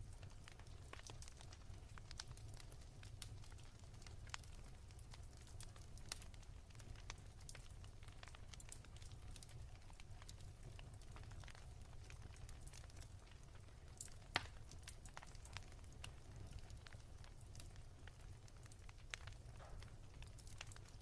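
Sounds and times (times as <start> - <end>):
wood fire crackling softly: 0.0 - 21.0.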